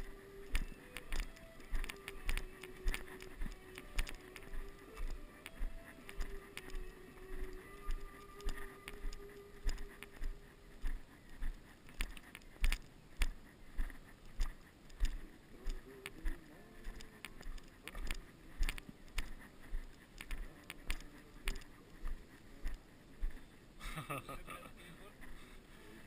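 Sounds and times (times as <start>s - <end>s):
footsteps on gravel path: 0.0s - 23.5s.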